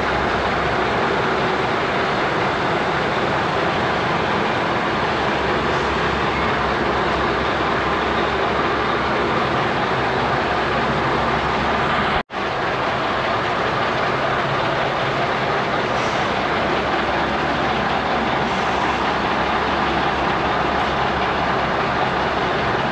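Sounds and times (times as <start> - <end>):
truck diesel engine running: 0.0 - 22.9.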